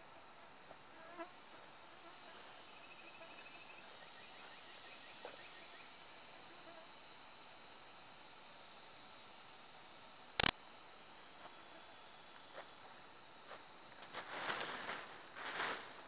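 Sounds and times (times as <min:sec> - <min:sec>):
high-pitched insect drone: 0:00.6 - 0:15.3.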